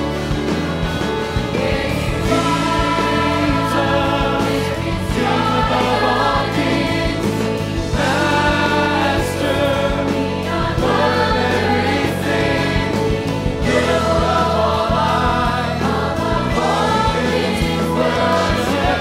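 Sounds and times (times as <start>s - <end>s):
gospel choir singing: 0.0s - 19.0s
percussion beats: 0.0s - 19.0s
piano: 0.0s - 19.0s.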